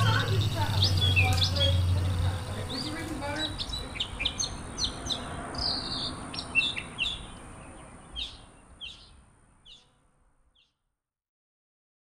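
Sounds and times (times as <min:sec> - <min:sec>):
birds chirping: 0:00.0 - 0:10.8
outdoor background hiss: 0:00.0 - 0:11.0.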